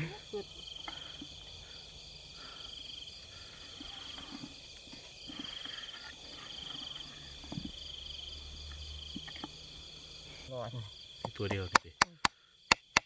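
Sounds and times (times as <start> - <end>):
fast pulsing insect chirp: 0.0 - 13.0
night insects trilling: 0.0 - 13.0.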